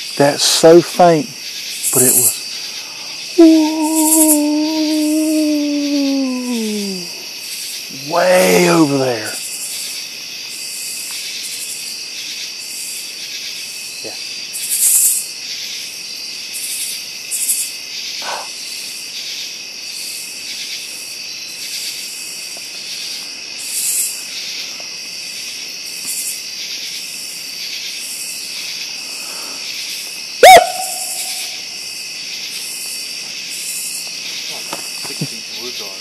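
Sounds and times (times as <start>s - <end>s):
crickets and insects trilling: 0.0s - 36.0s.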